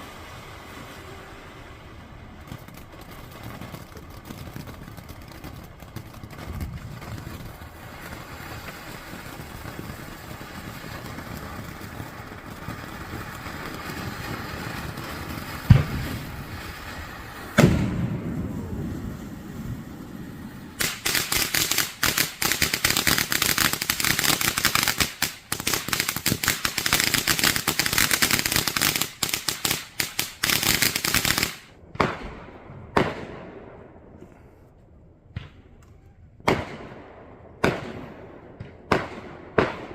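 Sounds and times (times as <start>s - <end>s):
fireworks crackling pops: 0.0s - 32.4s
fireworks bangs: 0.0s - 34.2s, 36.4s - 39.9s.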